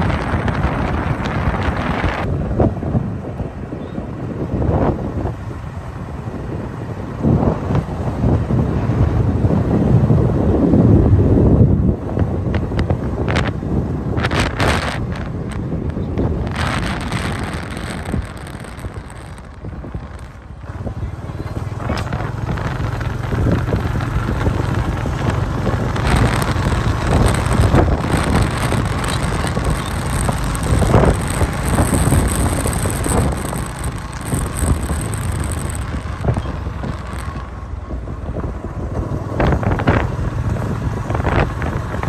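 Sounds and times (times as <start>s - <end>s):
motorbike engine rumble: 0.0s - 42.0s
wind buffeting microphone: 0.0s - 42.0s.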